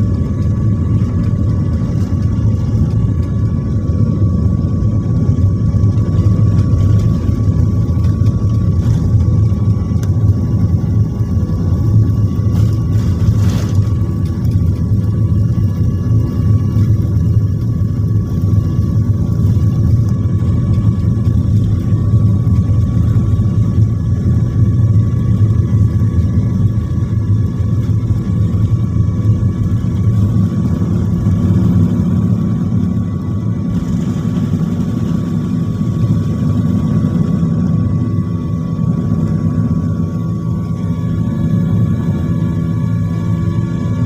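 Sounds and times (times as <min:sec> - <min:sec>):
airliner cabin engine rumble: 0:00.0 - 0:44.0
thin steady whine: 0:00.0 - 0:44.0.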